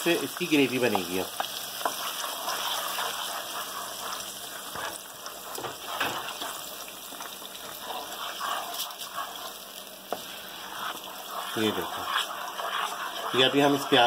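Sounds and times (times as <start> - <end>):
paste sizzling in hot oil: 0.0 - 14.0
wooden spatula scraping pan: 1.8 - 6.6, 7.2 - 14.0.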